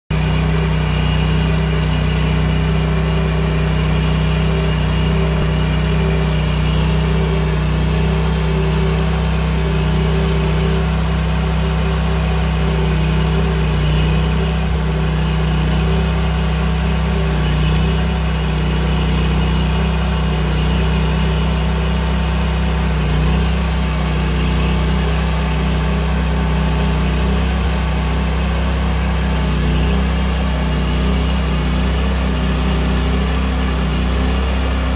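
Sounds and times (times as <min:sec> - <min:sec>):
sawmill engine running steadily: 0:00.1 - 0:34.9.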